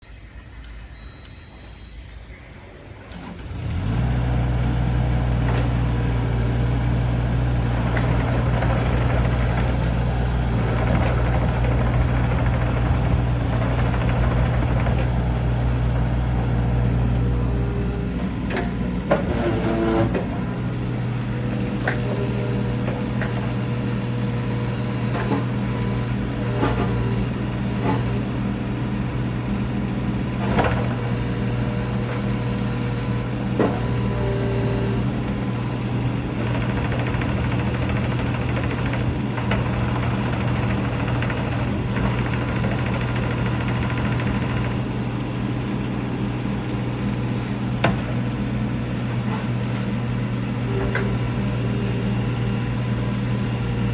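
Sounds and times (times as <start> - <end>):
diesel engine running: 2.5 - 53.9.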